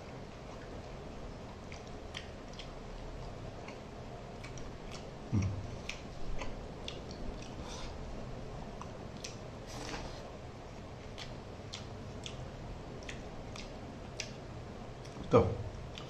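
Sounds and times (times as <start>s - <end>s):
chewing and lip smacking: 0.0s - 8.0s, 8.7s - 10.1s, 11.0s - 15.3s.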